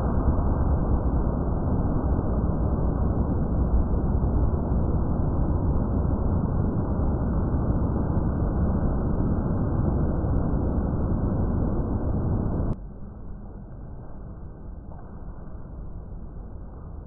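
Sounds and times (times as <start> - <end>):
dull deep rumble: 0.0 - 17.0.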